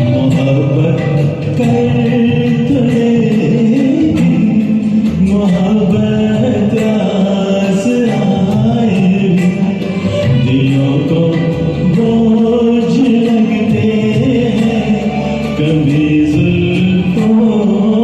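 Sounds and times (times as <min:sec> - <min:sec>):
karaoke backing track: 0:00.0 - 0:18.0
person singing: 0:00.0 - 0:18.0.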